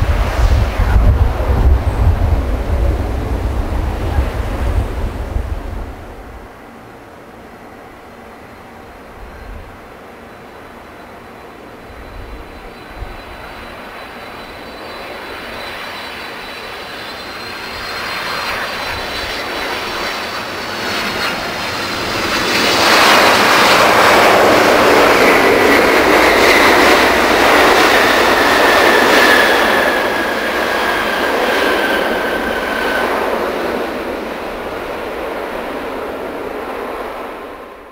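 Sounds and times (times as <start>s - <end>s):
jet airliner engines roaring: 0.0s - 37.9s
jet engine whine: 0.0s - 37.9s.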